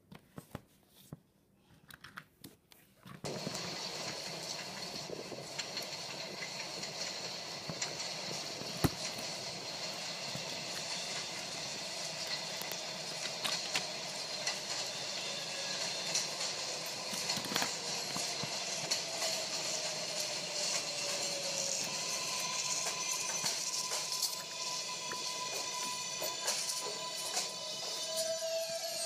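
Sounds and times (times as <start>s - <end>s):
subway train running noise: 3.2s - 29.0s.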